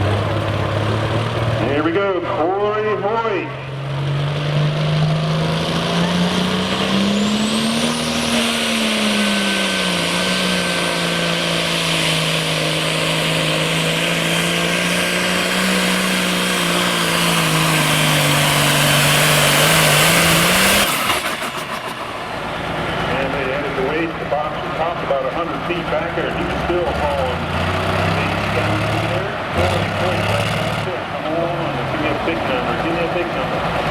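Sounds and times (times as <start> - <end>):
diesel engine at full throttle: 0.0 - 33.9.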